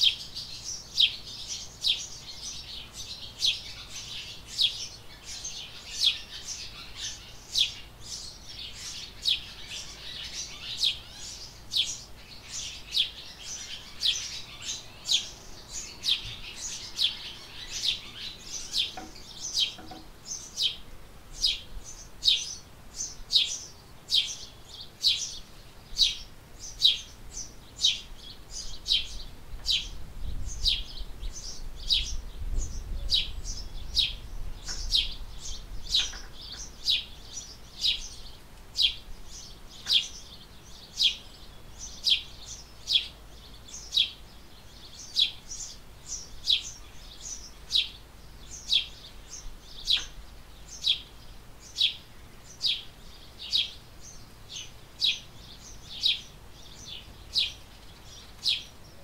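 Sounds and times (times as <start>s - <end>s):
small bird chirping: 0.0s - 59.0s.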